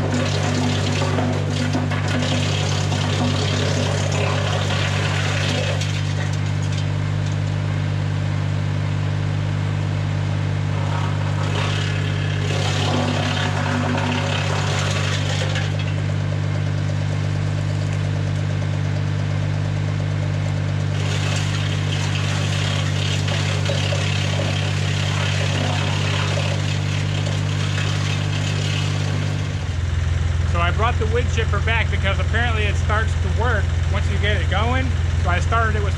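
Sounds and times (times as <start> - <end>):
tractor engine running steadily: 0.0 - 35.9
wood chipper: 0.0 - 35.9.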